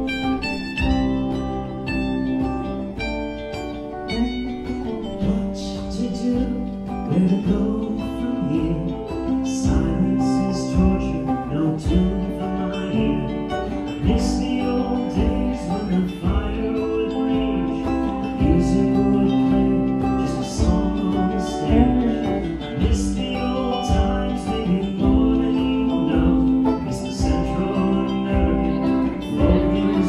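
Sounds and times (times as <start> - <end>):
live band playing a waltz: 0.0 - 7.8, 8.6 - 30.0
person singing: 0.0 - 30.0.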